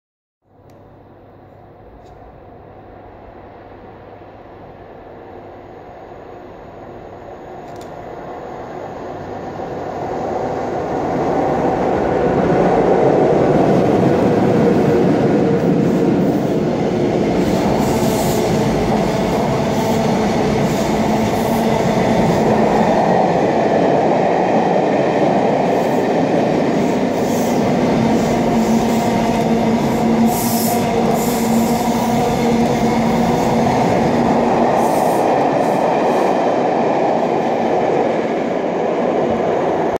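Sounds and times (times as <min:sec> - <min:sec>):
train wheels rushing on rail: 0:07.7 - 0:39.9.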